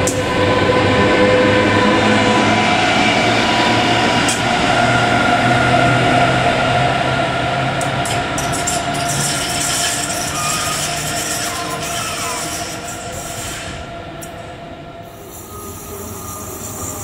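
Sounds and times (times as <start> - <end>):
electric locomotive drive tones: 0.0 - 17.0
wheel and rail noise: 0.0 - 17.0.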